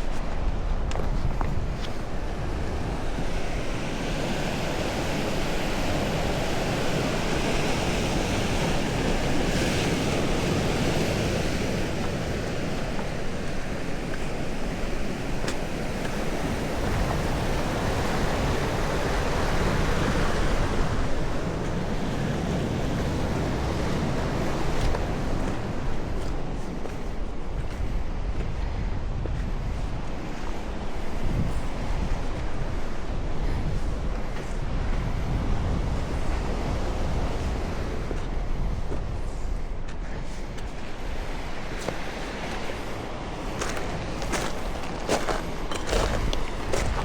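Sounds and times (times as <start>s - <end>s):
ocean waves breaking: 0.0s - 47.0s.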